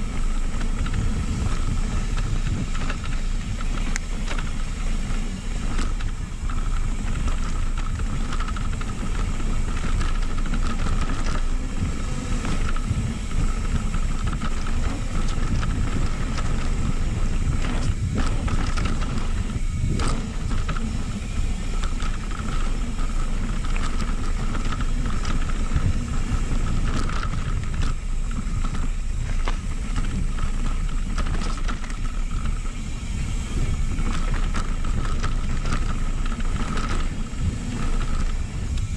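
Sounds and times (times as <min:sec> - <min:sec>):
constant high buzz: 0:00.0 - 0:38.9
tyres on dirt: 0:00.0 - 0:38.9
wind rumble: 0:00.0 - 0:38.9.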